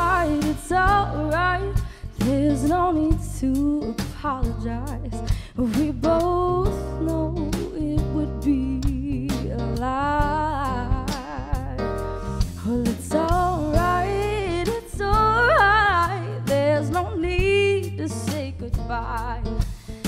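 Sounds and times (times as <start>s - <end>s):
woman singing: 0.0s - 12.0s, 12.6s - 19.6s
live band playing: 0.0s - 20.0s.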